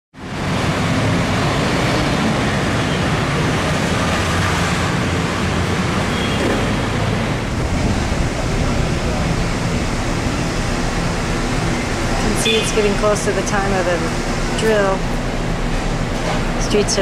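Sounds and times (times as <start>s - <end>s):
city street traffic: 0.1s - 17.0s.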